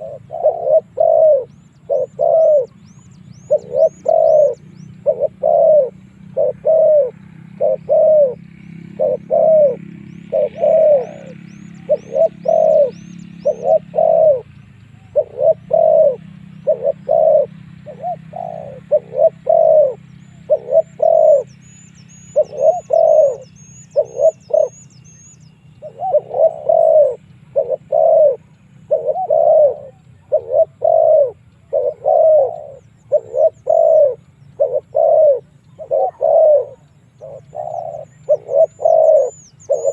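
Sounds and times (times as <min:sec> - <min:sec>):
small bird high chirps: 0:00.0 - 0:08.4, 0:09.0 - 0:39.9
dove cooing: 0:00.0 - 0:39.9
low steady hum: 0:00.0 - 0:39.9.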